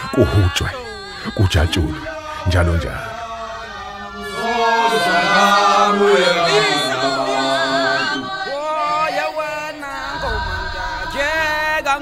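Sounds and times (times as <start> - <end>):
group singing without instruments: 0.0 - 12.0.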